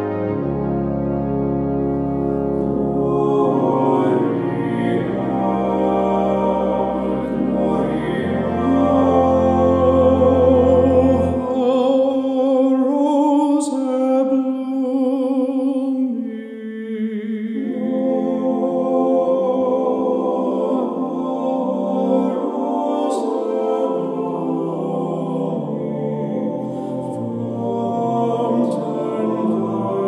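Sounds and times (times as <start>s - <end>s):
voices singing in harmony: 0.0s - 30.0s.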